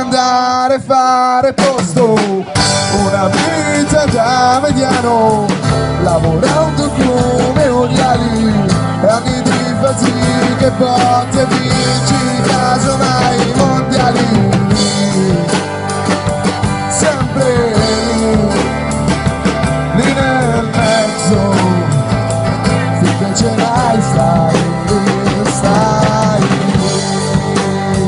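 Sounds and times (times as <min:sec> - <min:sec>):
live rock band: 0:00.0 - 0:28.0.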